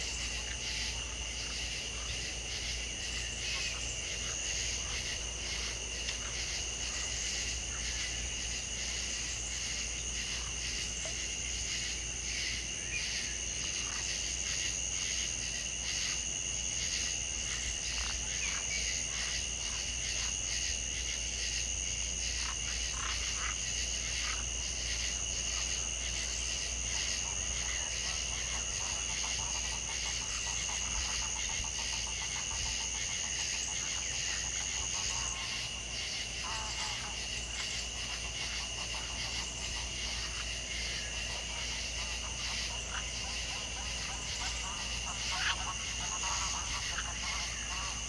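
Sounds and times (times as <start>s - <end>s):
frogs and insects trilling: 0.0s - 48.0s.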